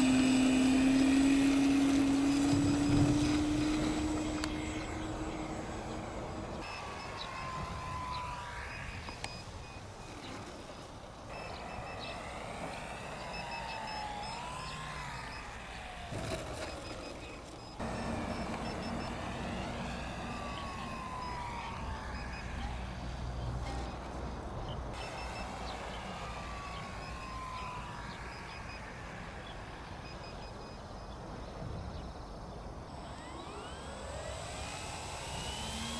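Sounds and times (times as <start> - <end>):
model plane motor whine: 0.0 - 31.1, 32.8 - 35.9.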